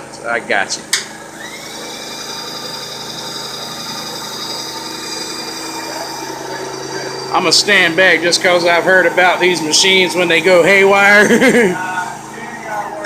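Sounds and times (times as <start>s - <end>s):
machine hum: 0.0s - 13.0s
milling machine spindle whine: 1.0s - 13.0s.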